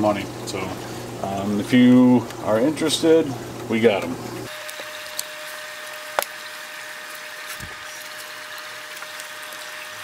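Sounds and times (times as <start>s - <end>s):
aquarium filter pump running: 0.0s - 10.0s.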